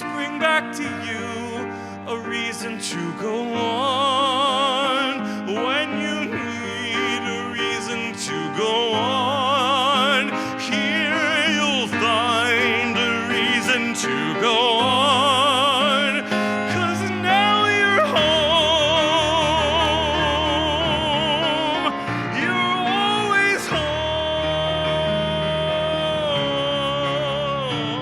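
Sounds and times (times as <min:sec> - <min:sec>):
person singing ballad with vibrato: 0:00.0 - 0:28.0.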